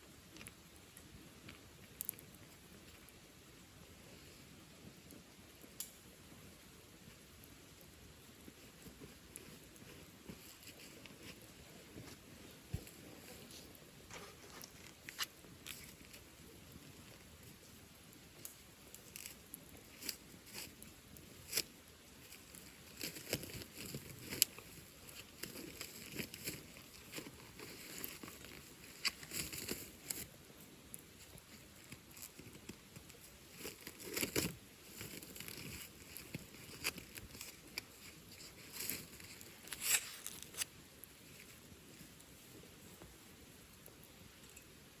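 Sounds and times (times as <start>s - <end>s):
bonfire crackling: 0.0s - 45.0s.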